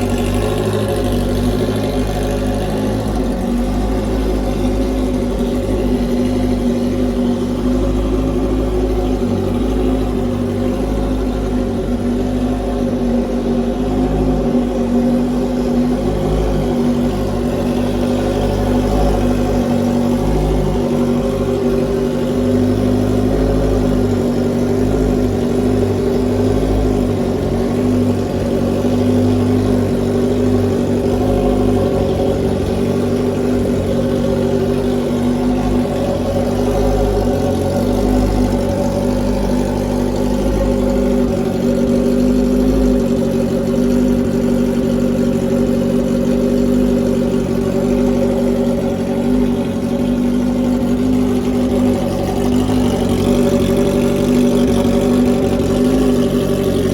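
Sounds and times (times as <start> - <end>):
loud motorcycle engine running: 0.0 - 56.9.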